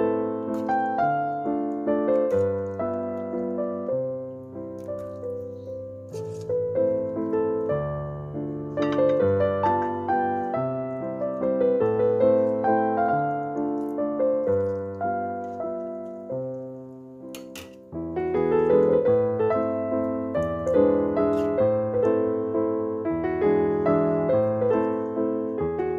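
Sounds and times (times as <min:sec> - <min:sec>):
slow piano melody: 0:00.0 - 0:25.9.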